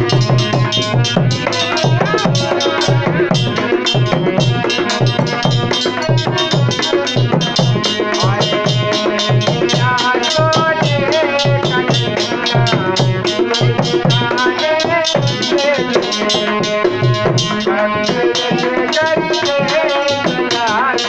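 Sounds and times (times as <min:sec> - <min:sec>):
busy hand percussion: 0:00.0 - 0:21.0
steady drum beat: 0:00.0 - 0:21.0.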